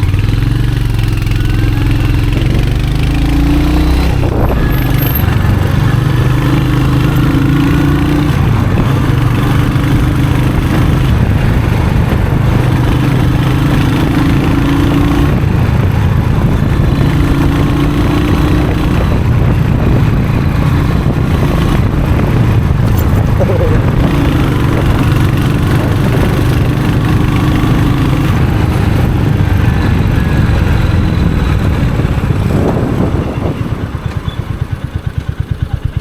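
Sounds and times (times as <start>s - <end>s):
motorcycle engine and exhaust: 0.0s - 36.0s.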